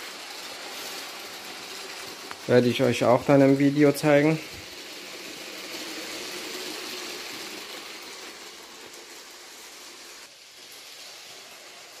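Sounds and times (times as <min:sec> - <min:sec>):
toy train wheels and motor rattling: 0:00.0 - 0:12.0.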